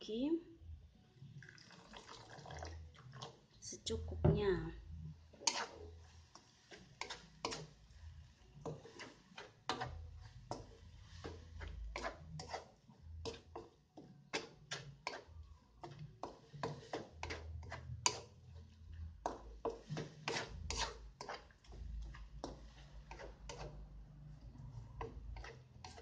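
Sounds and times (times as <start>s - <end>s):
wooden spatula scraping a wok: 5.2s - 26.0s.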